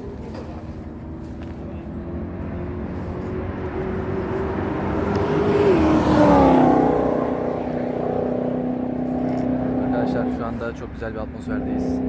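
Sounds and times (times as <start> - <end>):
sports car passing: 0.0 - 12.0.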